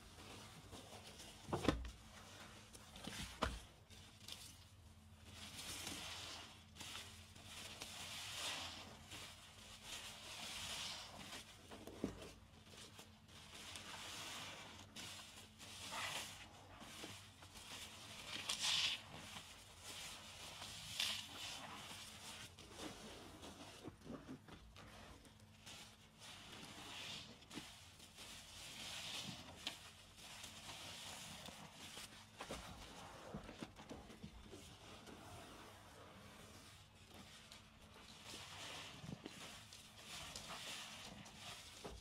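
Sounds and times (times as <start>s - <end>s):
soapy sponge squishing: 0.0s - 42.0s.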